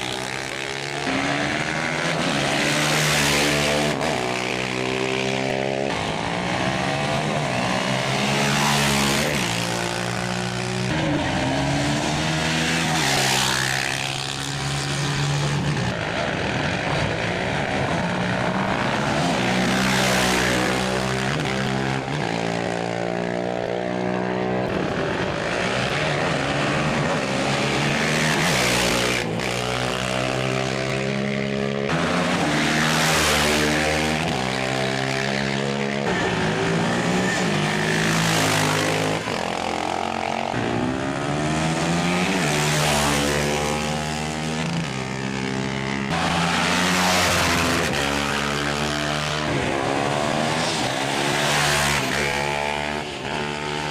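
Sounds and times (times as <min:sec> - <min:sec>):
motorcycle engines running hard: 0:00.0 - 0:53.9.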